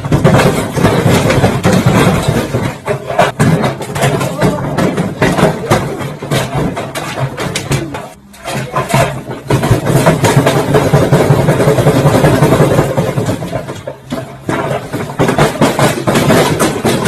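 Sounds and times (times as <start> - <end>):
brick knocking in washing machine: 0.0 - 17.0.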